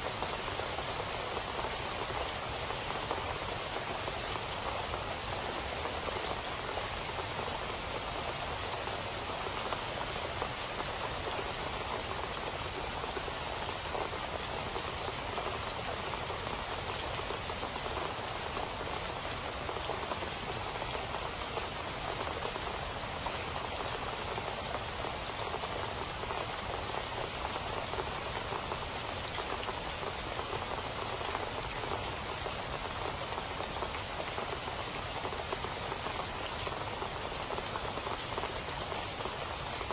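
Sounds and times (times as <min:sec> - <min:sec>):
heavy rain splashing into water: 0:00.0 - 0:39.9.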